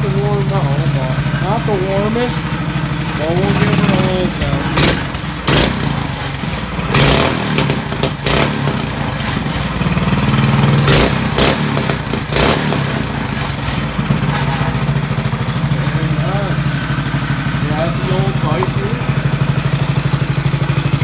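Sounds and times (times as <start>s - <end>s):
sharp engine knocks: 0.0s - 21.0s
small engine idling and revving: 0.0s - 21.0s.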